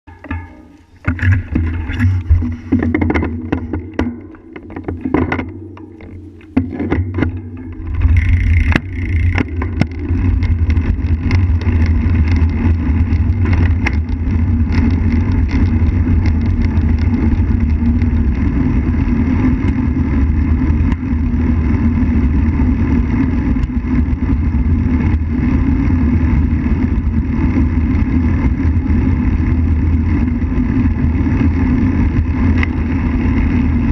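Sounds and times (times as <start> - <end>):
bicycle tyres rolling on pavement: 0.1 - 33.9
wind on microphone: 1.0 - 33.9.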